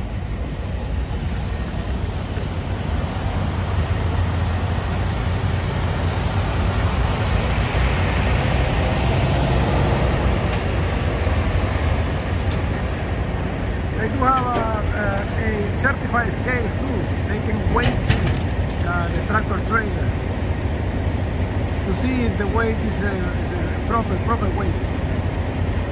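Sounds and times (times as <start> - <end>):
diesel truck engines rumbling: 0.0 - 25.9.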